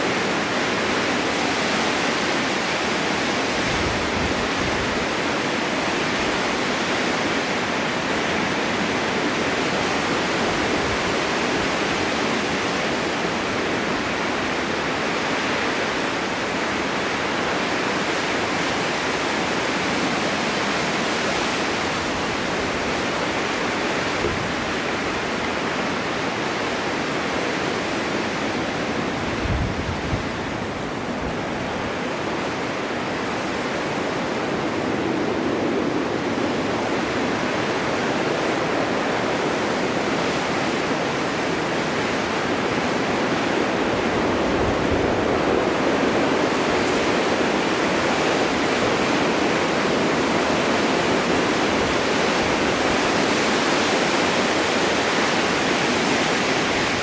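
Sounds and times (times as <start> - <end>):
wind blowing snow: 0.0 - 57.0.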